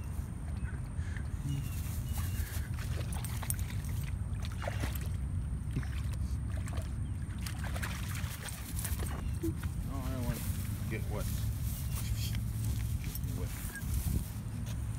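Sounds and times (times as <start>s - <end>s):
puppy splashing in muddy puddle: 0.0s - 14.0s.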